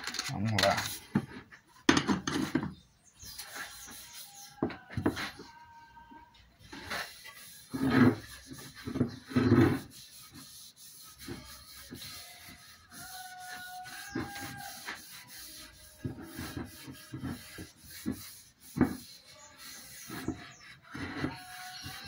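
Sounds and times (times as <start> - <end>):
hand rubbing wax into wood: 0.0 - 1.7, 3.2 - 5.6, 6.6 - 22.0.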